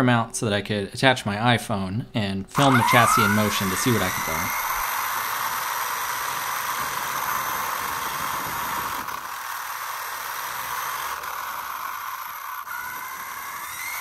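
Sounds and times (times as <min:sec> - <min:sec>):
toy car drivetrain whirring: 0:02.6 - 0:14.0.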